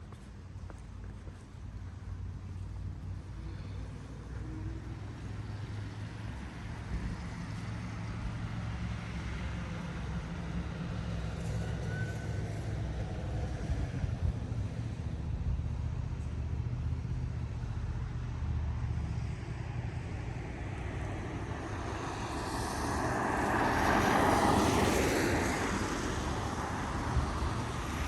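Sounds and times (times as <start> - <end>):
vehicle engine and tyres: 0.0 - 28.0.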